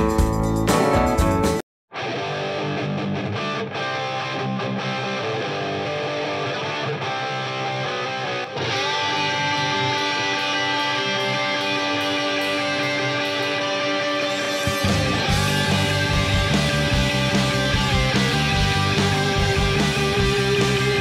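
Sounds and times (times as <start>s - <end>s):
guitar background music: 0.0s - 21.0s.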